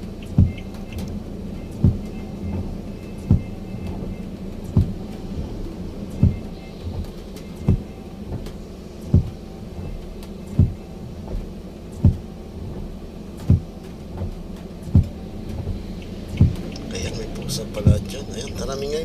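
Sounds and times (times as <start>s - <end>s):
low rumble: 0.0s - 19.0s
footsteps dull thumps: 0.2s - 16.9s.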